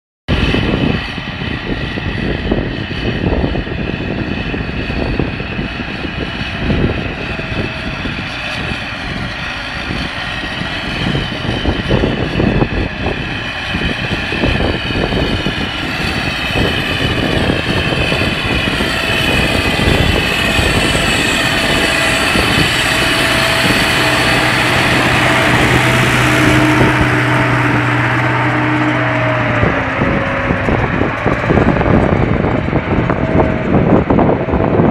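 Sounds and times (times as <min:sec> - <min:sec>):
tractor diesel engine running: 0:00.3 - 0:34.9
wind rumble on microphone: 0:00.3 - 0:34.9.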